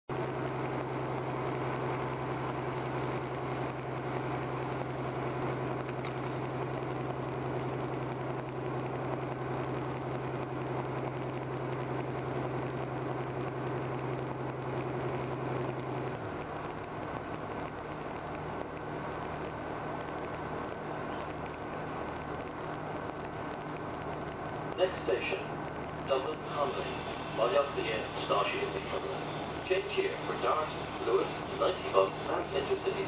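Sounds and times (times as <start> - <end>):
train diesel engine drone: 0.1 - 33.0.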